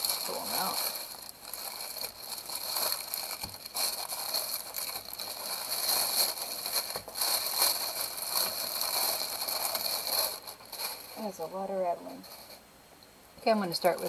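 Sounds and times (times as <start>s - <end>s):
plastic and cellophane crinkling: 0.0s - 12.6s, 13.4s - 14.0s.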